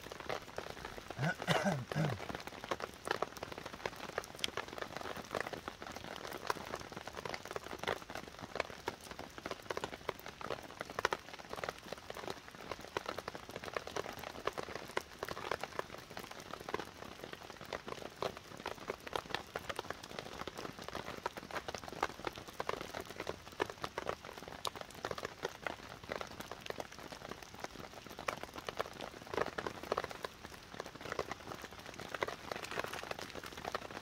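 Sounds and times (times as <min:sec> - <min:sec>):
heavy rain on a tarp: 0:00.0 - 0:34.0.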